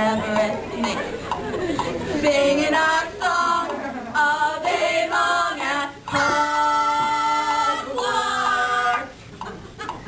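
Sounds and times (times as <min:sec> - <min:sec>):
group singing a cappella: 0:00.0 - 0:01.0, 0:01.8 - 0:09.3.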